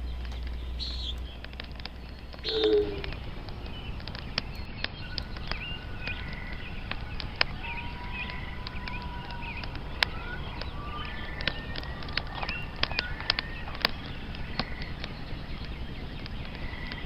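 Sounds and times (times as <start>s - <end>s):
sharp crackles and pops: 0.0s - 17.0s
small birds chirping and trilling: 0.0s - 17.0s
steady low rumble: 0.0s - 17.0s.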